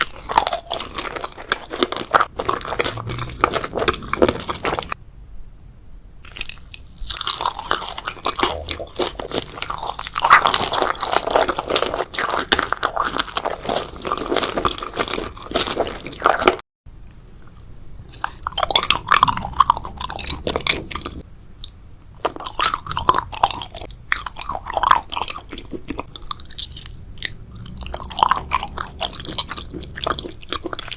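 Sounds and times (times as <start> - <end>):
crunching and chewing crisp food: 0.0 - 5.0, 6.2 - 30.9.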